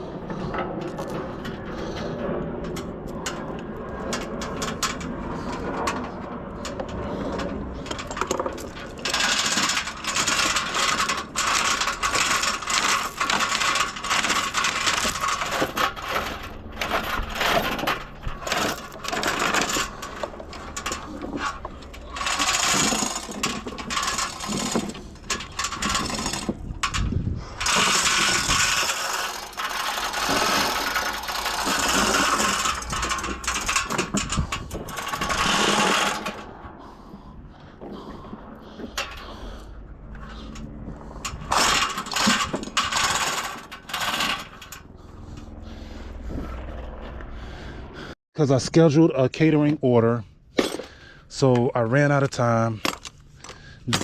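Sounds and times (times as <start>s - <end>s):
tools rattling and clicking: 0.3s - 45.6s, 50.6s - 54.0s.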